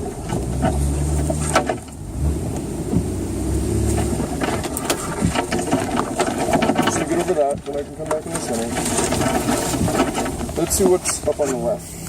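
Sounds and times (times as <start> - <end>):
branches scraping truck: 0.0 - 12.0
truck engine at low revs: 0.0 - 12.0.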